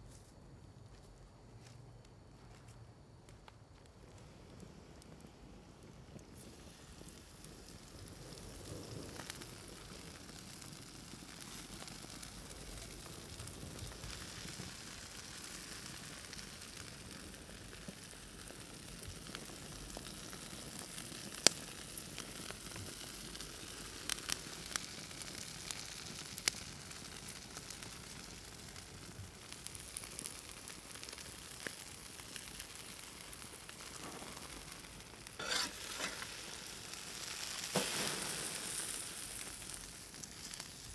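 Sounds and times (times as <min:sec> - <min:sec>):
fire crackling and popping: 0:00.0 - 0:40.9
meat sizzling on a grill: 0:04.7 - 0:40.9.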